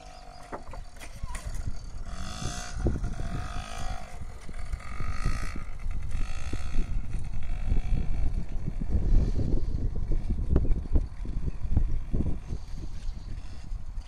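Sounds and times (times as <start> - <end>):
dirt bike motor: 0.0 - 14.0
wind rumble on microphone: 0.0 - 14.0.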